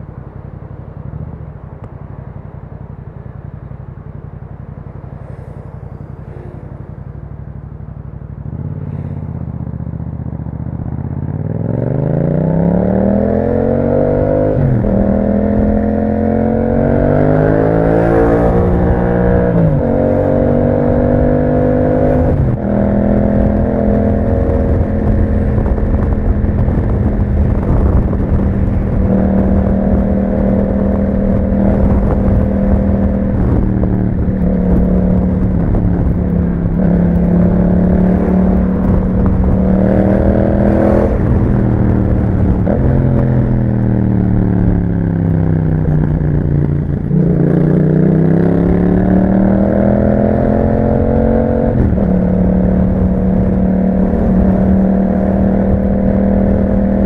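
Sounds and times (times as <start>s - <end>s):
motorcycle engine revving: 0.6s - 57.0s.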